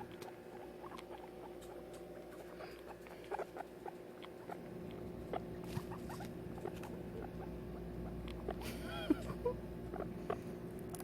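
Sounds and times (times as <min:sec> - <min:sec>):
faint steady hum: 0:00.0 - 0:11.0
guinea pigs ticking and chirping: 0:00.0 - 0:11.0.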